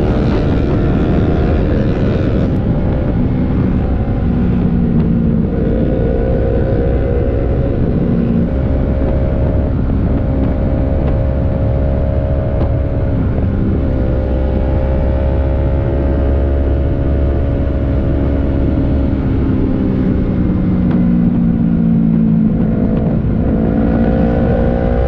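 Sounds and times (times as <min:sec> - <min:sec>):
low wind rumble: 0:00.0 - 0:25.0
motorcycle engine cruising: 0:00.0 - 0:25.0.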